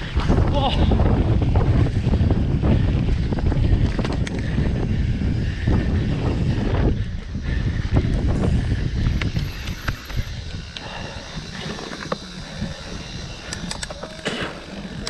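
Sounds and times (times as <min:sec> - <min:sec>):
bike drivetrain clicks and rattles: 0:00.0 - 0:15.0
wind rumble on microphone: 0:00.0 - 0:15.0.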